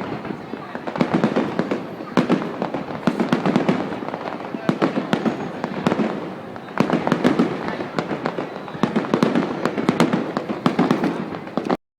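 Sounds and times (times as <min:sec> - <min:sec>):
fireworks cracks and bangs: 0:00.0 - 0:11.8.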